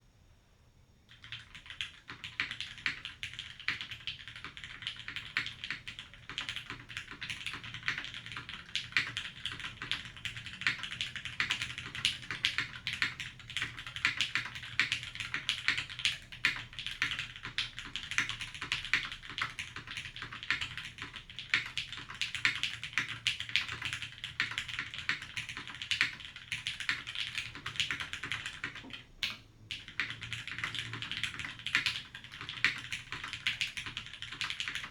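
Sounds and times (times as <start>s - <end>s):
fast typing on mechanical keyboard: 1.1s - 34.9s.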